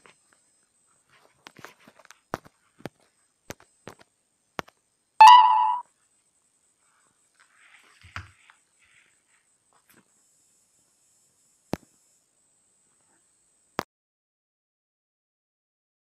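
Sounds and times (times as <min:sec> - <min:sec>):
faint high-pitched whine: 0:00.0 - 0:13.8.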